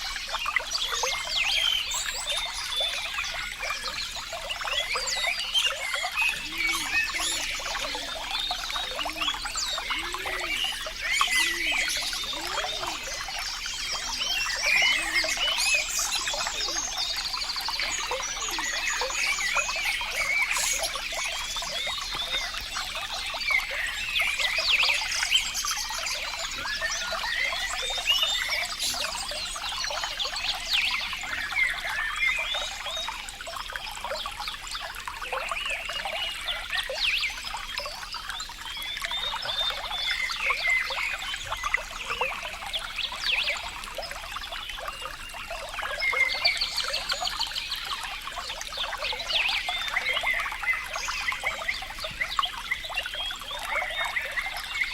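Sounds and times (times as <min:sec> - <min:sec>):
low water gurgles: 0:00.0 - 0:54.9
water trickling and babbling: 0:00.0 - 0:54.9.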